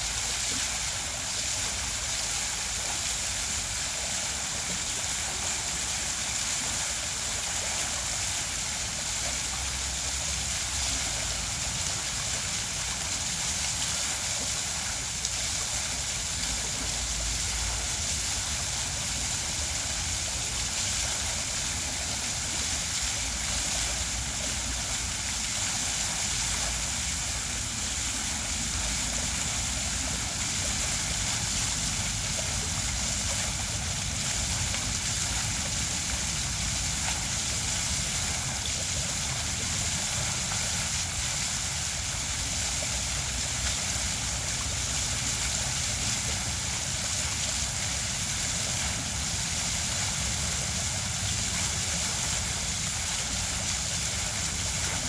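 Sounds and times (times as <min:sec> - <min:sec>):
fountain water splashing into basin: 0:00.0 - 0:55.0.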